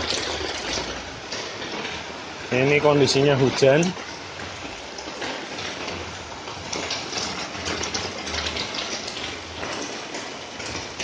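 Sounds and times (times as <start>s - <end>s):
raindrops tapping umbrella: 0.0s - 11.0s.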